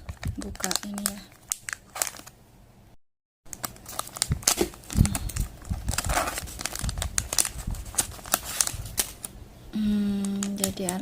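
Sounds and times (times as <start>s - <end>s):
packaging crinkling: 0.0s - 2.4s, 3.5s - 9.4s, 10.2s - 11.0s.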